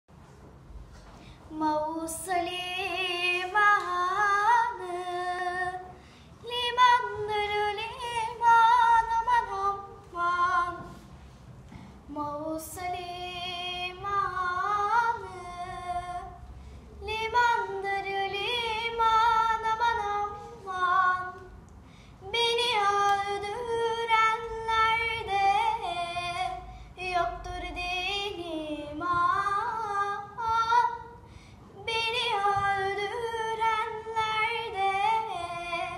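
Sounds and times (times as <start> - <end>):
girl singing unaccompanied: 1.5 - 11.2, 12.0 - 16.4, 17.0 - 21.6, 22.2 - 35.9.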